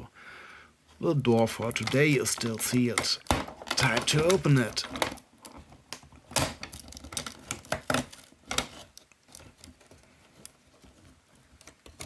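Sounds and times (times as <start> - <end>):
sharp clicks and crackles: 1.6 - 12.0.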